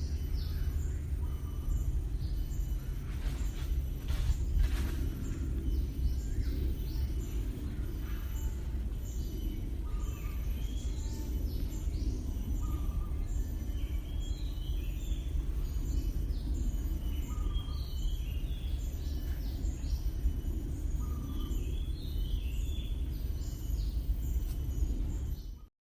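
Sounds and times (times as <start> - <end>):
steady low rumble: 0.0 - 25.7
wild birds calling: 0.0 - 25.7.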